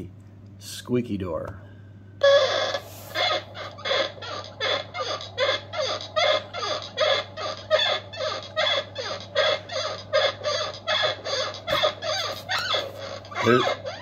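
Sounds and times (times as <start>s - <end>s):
door hinge squeaking: 2.2s - 14.0s.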